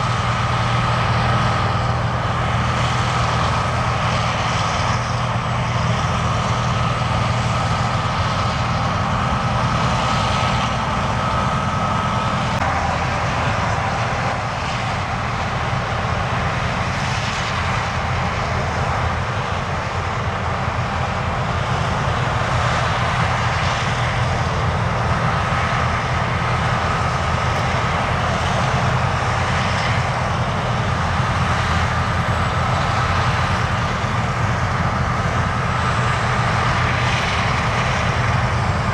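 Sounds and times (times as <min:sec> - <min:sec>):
diesel engine drone: 0:00.0 - 0:38.9
high machine whine: 0:00.0 - 0:38.9.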